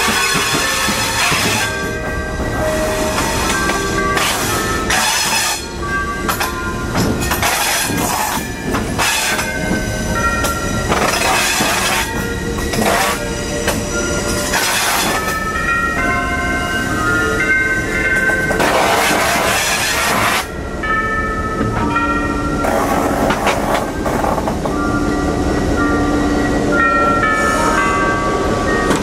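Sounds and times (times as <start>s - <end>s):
train running noise: 0.0s - 29.0s.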